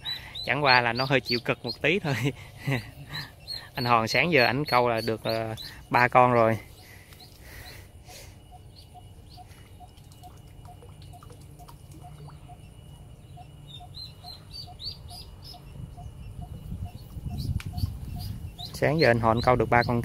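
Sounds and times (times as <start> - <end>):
duckling peeping: 0.0 - 20.0.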